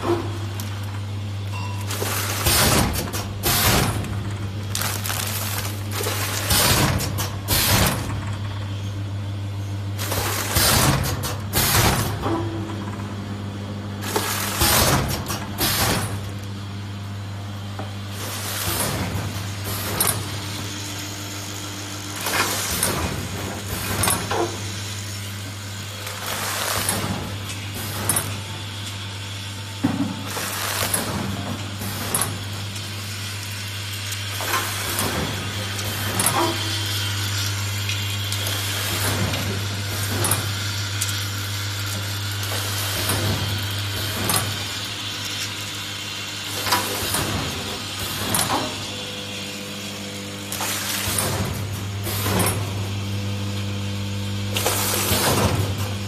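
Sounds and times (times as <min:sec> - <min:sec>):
noisy rush of machine: 0:00.0 - 0:56.0
packing machine humming: 0:00.0 - 0:56.0.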